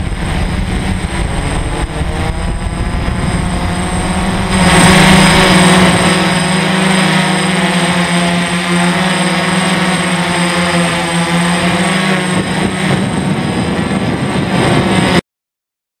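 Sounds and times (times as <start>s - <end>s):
drone motors buzzing: 0.0s - 15.2s.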